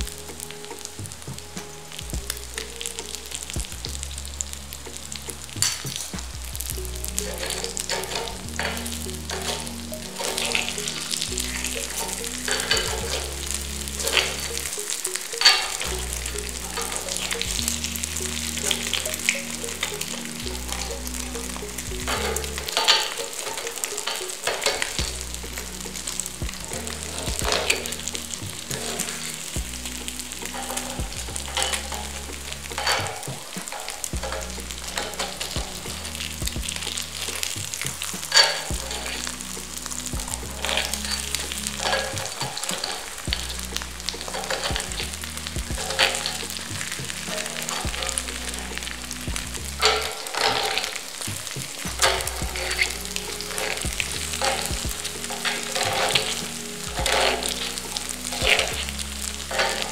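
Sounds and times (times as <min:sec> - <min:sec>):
batter frying in oil: 0:00.0 - 0:59.9
spoon clicking and scraping pan: 0:06.9 - 0:59.9.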